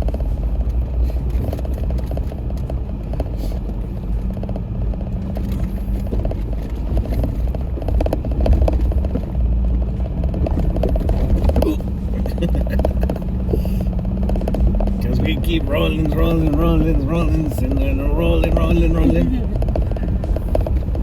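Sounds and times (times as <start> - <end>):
car body rattling: 0.0 - 21.0
car engine at low revs: 0.0 - 21.0.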